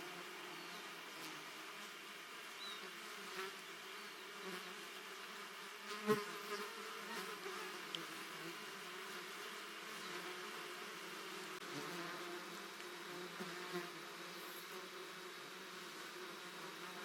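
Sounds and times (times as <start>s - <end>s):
flying insects buzzing: 0.0s - 17.0s.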